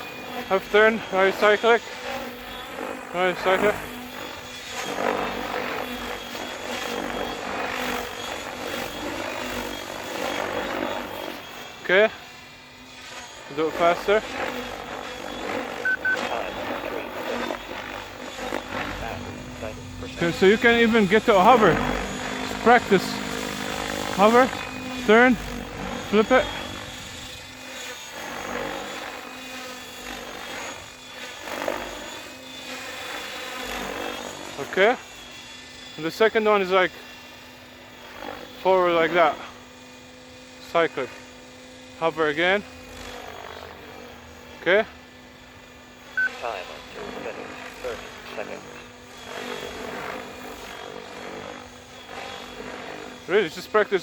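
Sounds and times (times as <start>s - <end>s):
electric motor whining: 0.0s - 54.0s
helicopter rotor whooshing: 0.0s - 54.0s.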